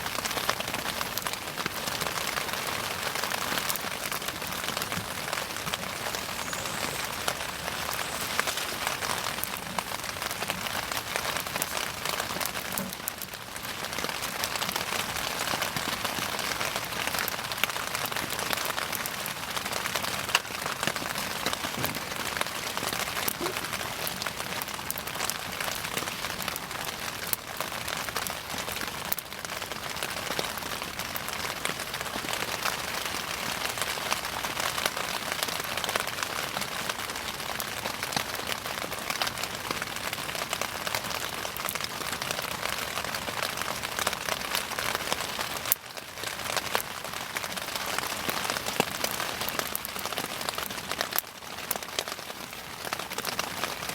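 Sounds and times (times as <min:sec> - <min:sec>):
bonfire crackling and popping: 0:00.0 - 0:53.9.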